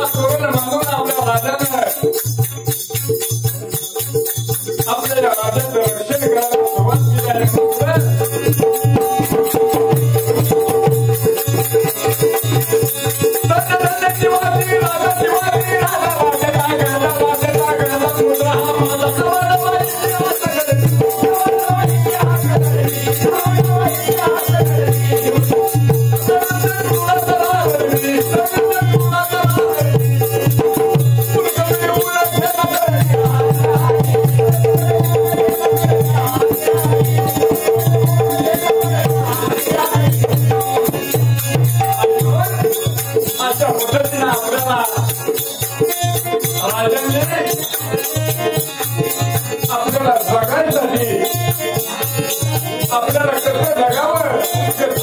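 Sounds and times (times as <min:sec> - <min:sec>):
fast rattling percussion: 0:00.0 - 0:55.0
rhythmic drum beat: 0:00.0 - 0:55.0.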